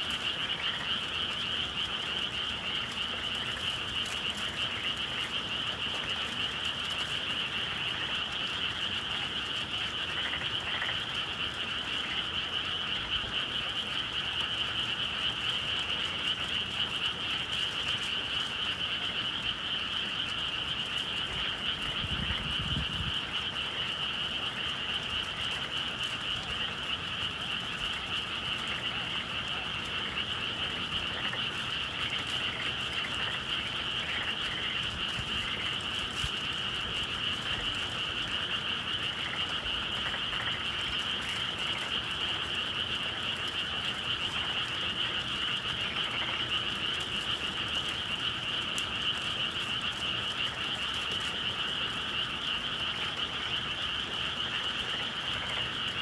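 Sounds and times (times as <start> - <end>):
chorus of frogs calling: 0.0 - 56.0.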